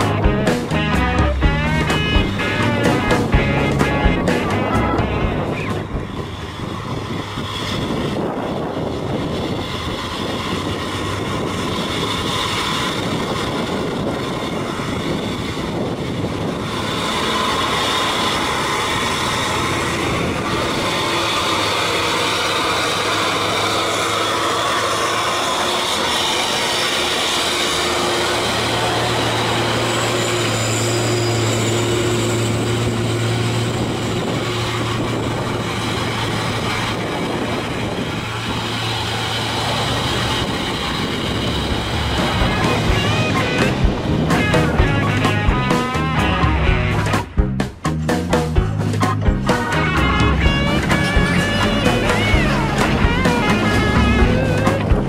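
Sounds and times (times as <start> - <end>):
diesel truck engine labouring: 0.0 - 55.0.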